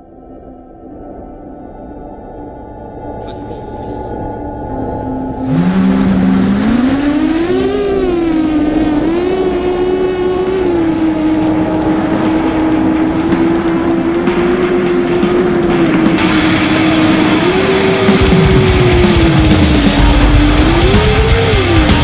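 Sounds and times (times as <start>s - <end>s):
drone motors whining: 3.2s - 22.0s.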